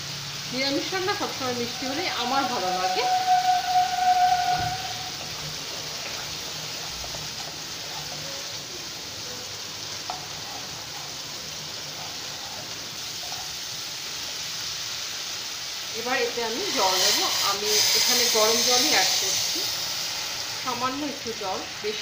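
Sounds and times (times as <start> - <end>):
paste sizzling in oil: 0.0 - 22.0.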